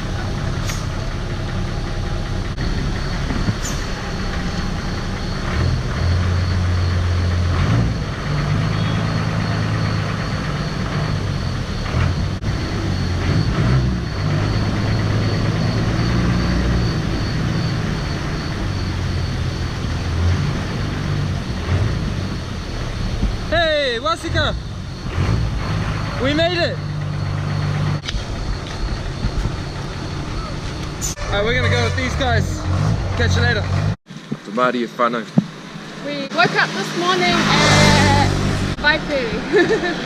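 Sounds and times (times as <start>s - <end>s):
vehicle engine running under load: 0.0s - 40.0s.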